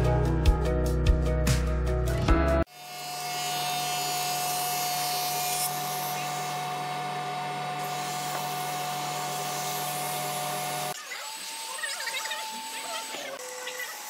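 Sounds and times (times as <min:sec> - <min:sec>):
planer cutter hiss on wood: 0:02.7 - 0:14.0
planer motor hum: 0:02.7 - 0:14.0.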